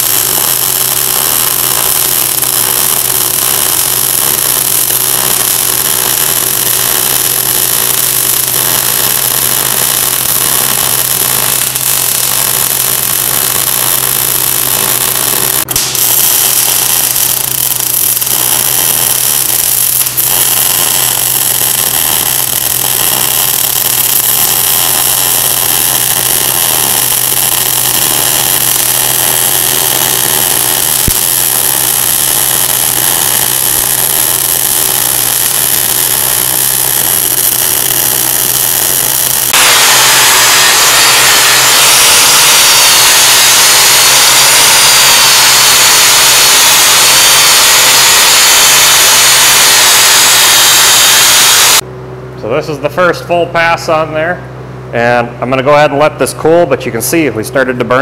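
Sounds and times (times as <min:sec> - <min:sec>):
welding arc hiss and crackle: 0:00.0 - 0:51.8.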